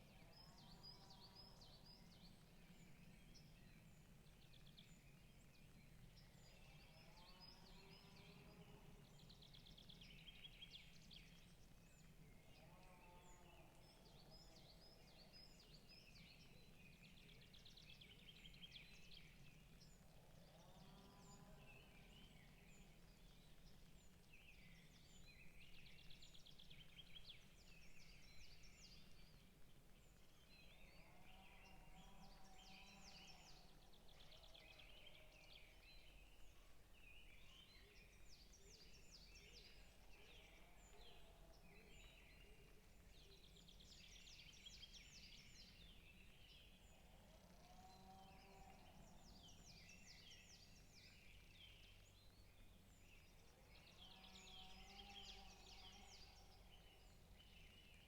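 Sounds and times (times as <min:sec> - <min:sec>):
small birds chirping and trilling: 0:00.5 - 0:58.0.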